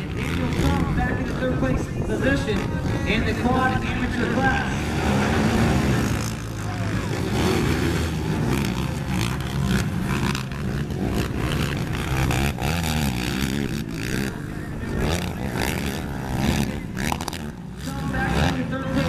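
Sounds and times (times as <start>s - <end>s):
quad engines revving: 0.0s - 19.0s.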